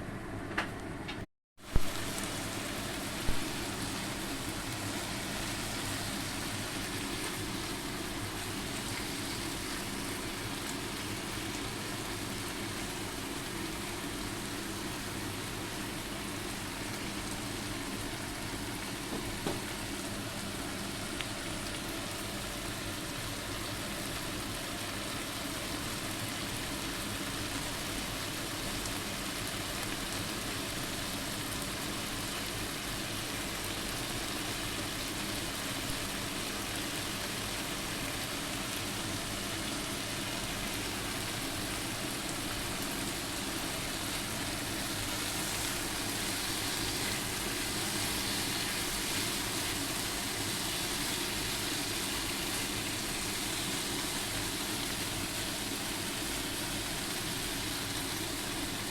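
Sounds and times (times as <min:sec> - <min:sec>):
food sizzling in a pan: 0:01.6 - 0:58.9.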